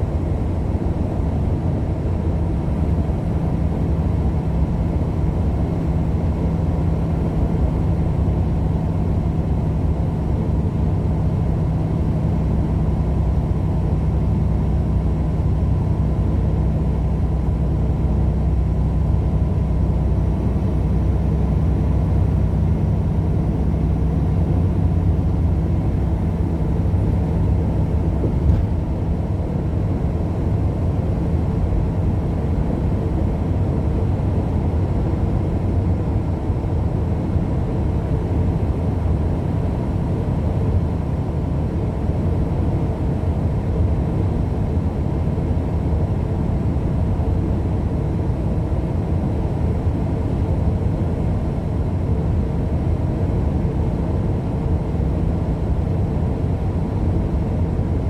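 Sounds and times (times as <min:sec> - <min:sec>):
vehicle cabin engine and road rumble: 0:00.0 - 0:58.0.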